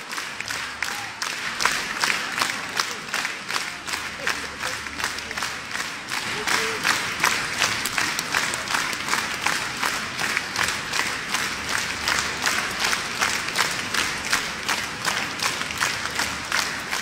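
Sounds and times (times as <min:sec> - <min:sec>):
audience clapping in rhythm: 0:00.0 - 0:17.0.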